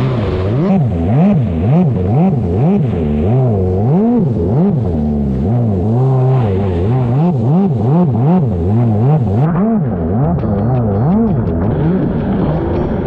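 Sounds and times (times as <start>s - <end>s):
jet ski engine revving: 0.0s - 13.0s.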